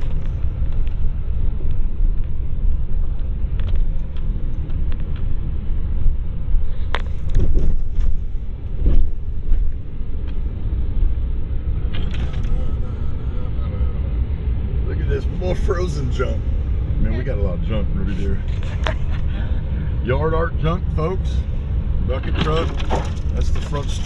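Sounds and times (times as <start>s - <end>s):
vehicle engine and tyres rumbling: 0.0s - 24.0s.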